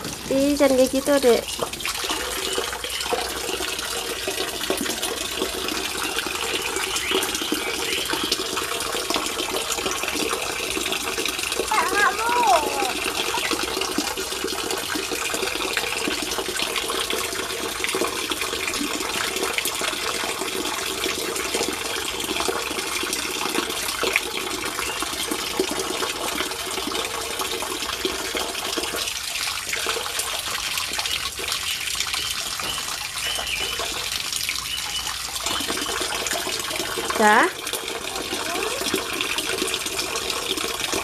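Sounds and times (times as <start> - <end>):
water pouring and splashing into pool: 0.0 - 41.0.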